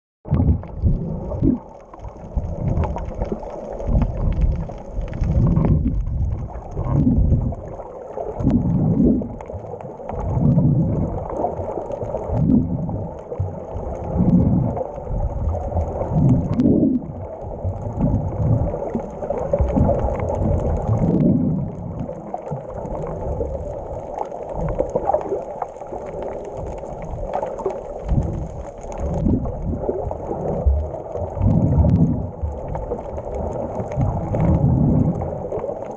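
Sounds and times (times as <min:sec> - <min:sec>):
muffled underwater sloshing: 0:00.3 - 0:35.9.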